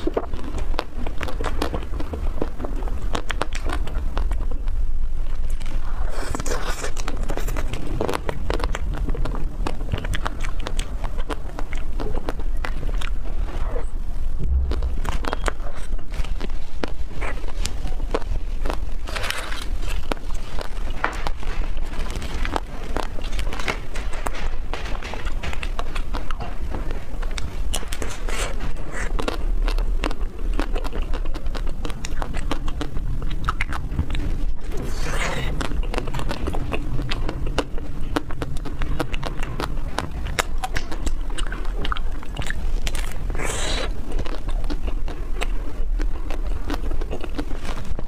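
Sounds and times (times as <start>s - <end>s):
biting and chewing ice cream: 0.0s - 48.0s
low steady hum: 0.0s - 48.0s.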